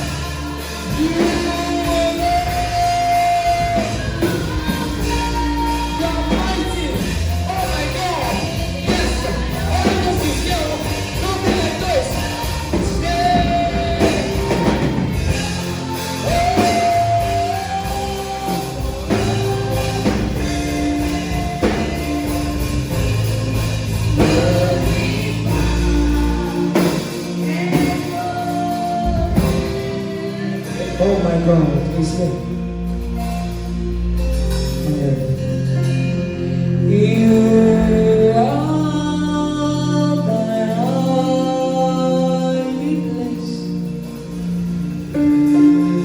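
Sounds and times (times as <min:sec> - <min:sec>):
band playing gospel music: 0:00.0 - 0:46.0.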